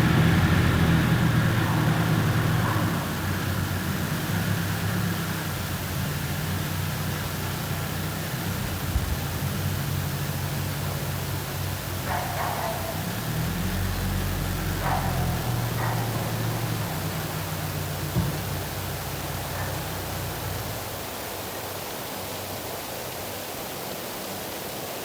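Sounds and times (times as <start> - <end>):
low engine hum: 0.0 - 21.4.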